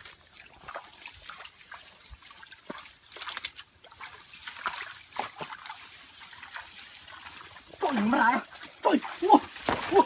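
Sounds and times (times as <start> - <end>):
bare feet wading through mud water: 0.0 - 10.0
water trickling: 0.0 - 10.0.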